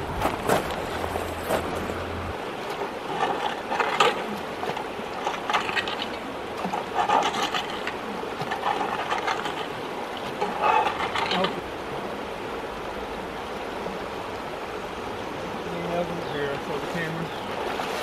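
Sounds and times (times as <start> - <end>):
river running over rocks: 0.0 - 18.0
splashes and knocks of wading: 0.0 - 18.0.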